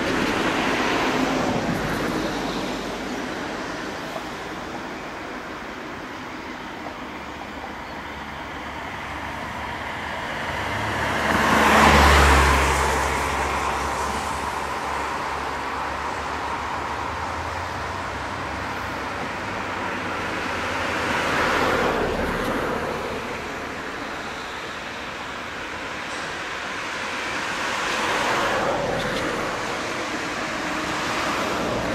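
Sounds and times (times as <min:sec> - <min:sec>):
road traffic noise: 0:00.0 - 0:31.9
vehicles passing close by: 0:00.0 - 0:31.9.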